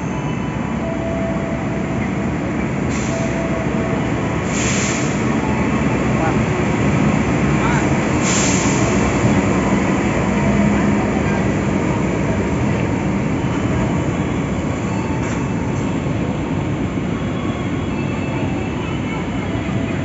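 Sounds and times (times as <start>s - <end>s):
diesel locomotive running: 0.0s - 20.0s.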